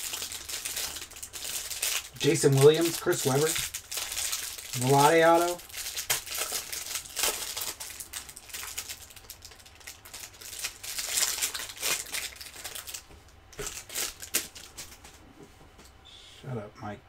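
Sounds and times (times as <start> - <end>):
plastic wrapper crinkling and tearing: 0.0 - 15.0.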